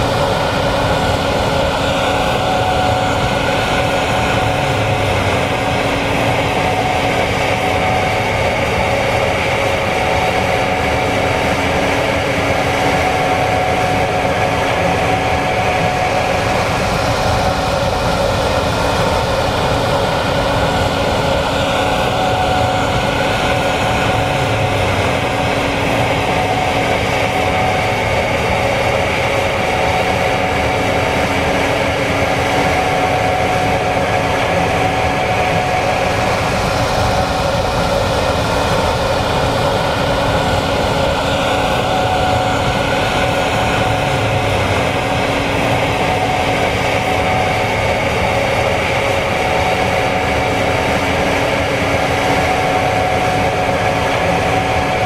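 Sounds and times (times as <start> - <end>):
combine harvester machine noise: 0.0 - 55.0
steady whining tones: 0.0 - 55.0.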